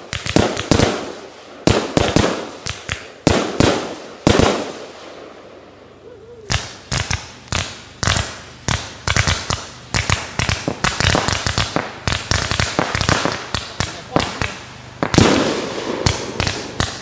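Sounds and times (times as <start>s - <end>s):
firework cake firing sharp reports: 0.0s - 5.1s, 6.4s - 17.0s.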